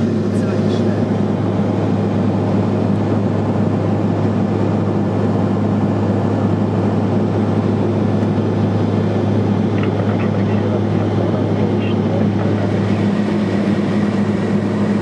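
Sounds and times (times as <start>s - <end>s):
turboprop engine drone in cabin: 0.0s - 15.0s.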